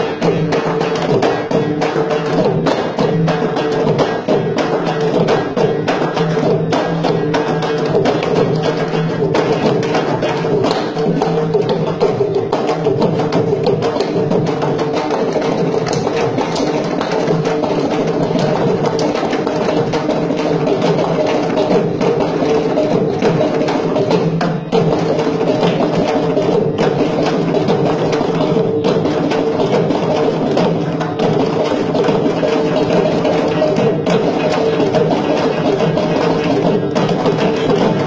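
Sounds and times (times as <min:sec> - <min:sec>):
mridangam drumming: 0:00.0 - 0:38.0
percussion ensemble: 0:00.0 - 0:38.0.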